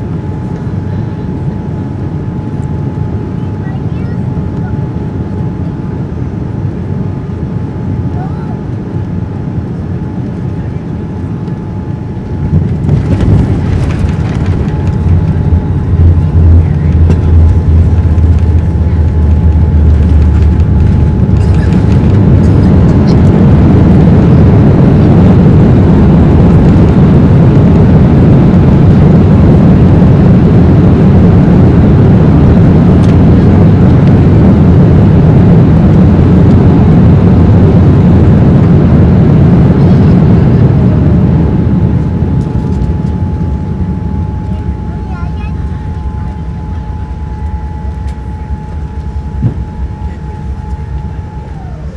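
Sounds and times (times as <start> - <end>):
aircraft engines roaring: 0.0 - 51.9
wheels rumbling on runway: 0.0 - 51.9.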